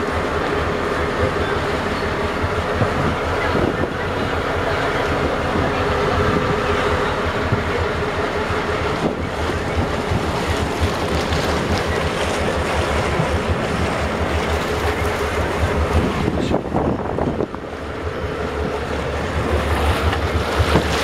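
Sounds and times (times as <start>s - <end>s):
electric pump humming: 0.0s - 21.0s
wind buffeting microphone: 1.8s - 21.0s.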